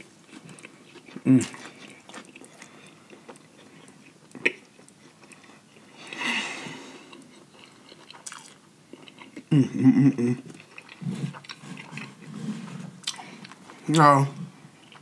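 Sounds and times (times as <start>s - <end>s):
crunchy chewing: 0.0s - 6.2s, 7.0s - 9.5s, 10.4s - 13.8s.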